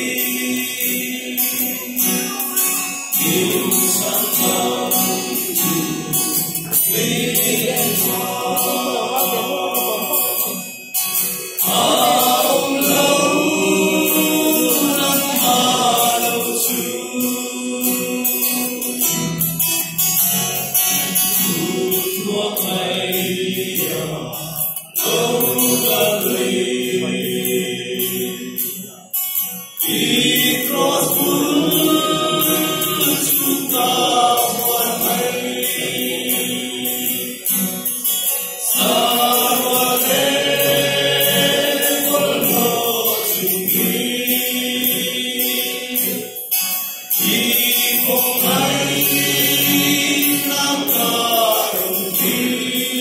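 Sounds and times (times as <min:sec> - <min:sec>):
male choir singing a hymn: 0:00.0 - 0:19.4, 0:20.8 - 0:29.0, 0:29.8 - 0:53.0.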